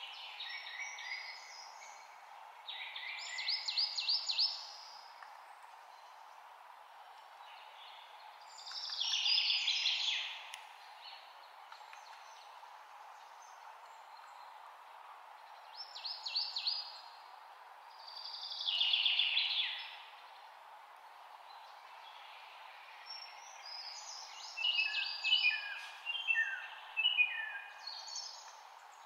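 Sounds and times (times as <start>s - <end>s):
songbirds singing: 0.0s - 29.0s
steady background noise: 0.0s - 29.0s.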